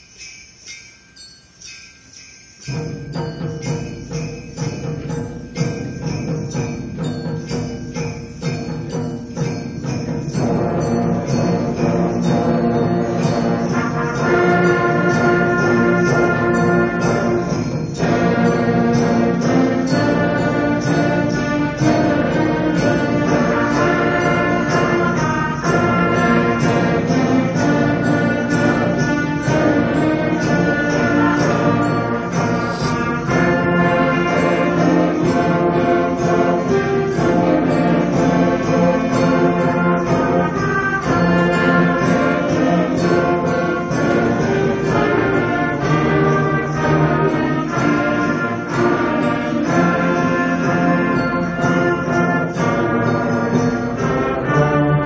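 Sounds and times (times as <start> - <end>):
concert band playing: 2.2 - 55.0.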